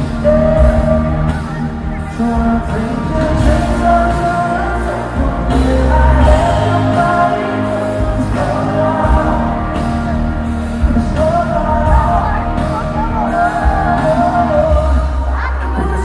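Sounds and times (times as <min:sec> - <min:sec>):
live band playing chords: 0:00.0 - 0:16.0
low bass: 0:00.0 - 0:16.0
person singing: 0:00.0 - 0:16.0.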